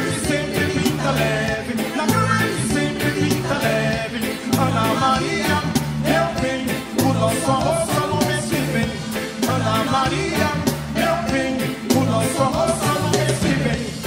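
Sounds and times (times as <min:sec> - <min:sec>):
live reggae band playing: 0:00.0 - 0:14.0
repeating bass line: 0:00.0 - 0:14.0.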